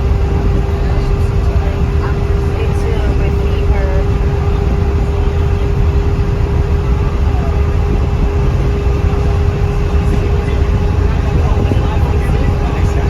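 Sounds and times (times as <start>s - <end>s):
bus engine and road rumble: 0.0s - 13.0s
constant hum: 0.0s - 13.0s.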